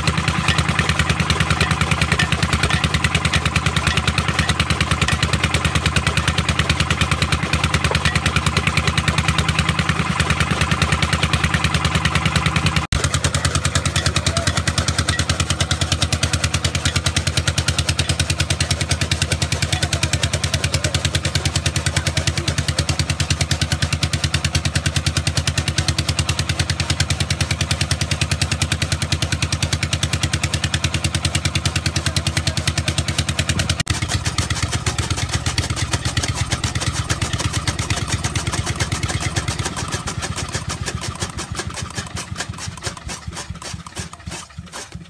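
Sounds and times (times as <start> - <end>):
chaff cutter chopping fodder: 0.0 - 45.0
diesel engine running: 0.0 - 45.0.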